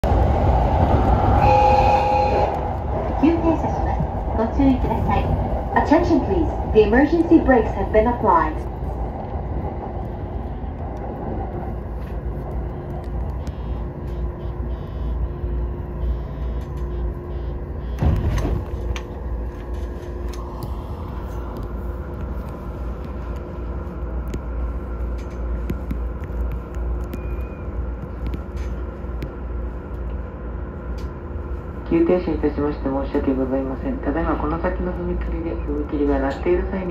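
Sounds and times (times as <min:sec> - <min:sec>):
train interior low rumble: 0:00.0 - 0:36.9.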